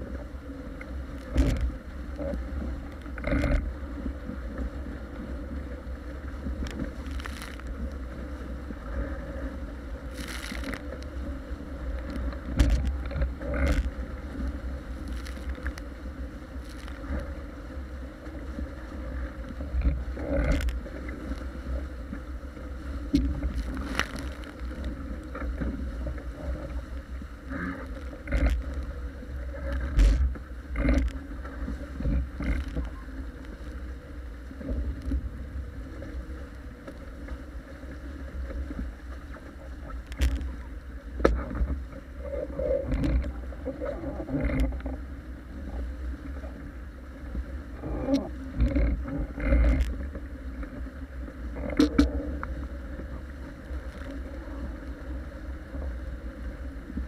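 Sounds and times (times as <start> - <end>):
waves slapping against hull: 0.0 - 57.0
wind rumbling on microphone: 0.0 - 57.0.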